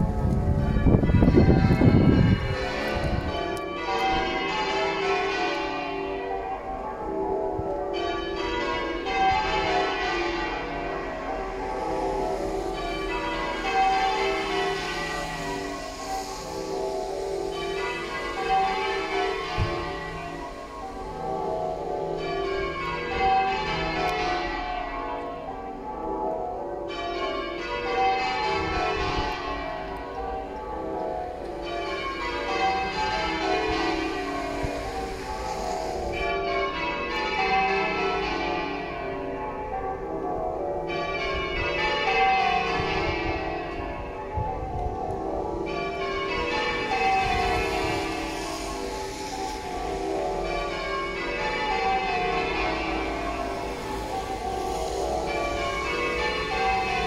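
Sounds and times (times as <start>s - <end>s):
half-muffled church bells: 0.0s - 57.0s.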